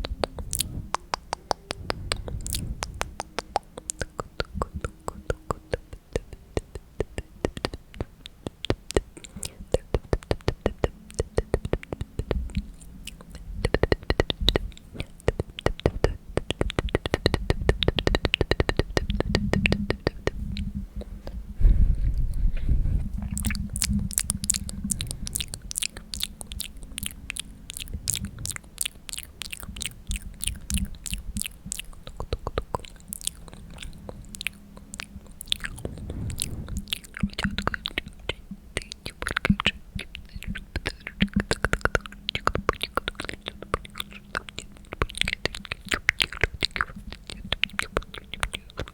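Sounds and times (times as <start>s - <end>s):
wet mouth clicks and smacks: 0.0s - 20.8s, 23.2s - 48.9s.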